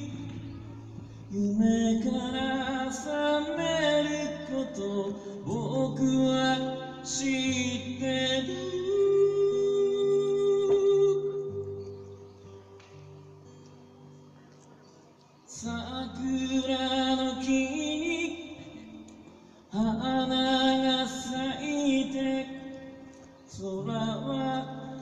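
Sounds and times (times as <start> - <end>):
man singing: 0.0 - 12.1, 15.5 - 25.0
acoustic guitar strumming: 0.0 - 25.0.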